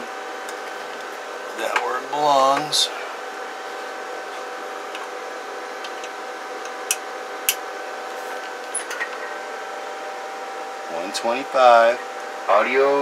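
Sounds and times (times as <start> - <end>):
electrical hum with tones: 0.0 - 13.0.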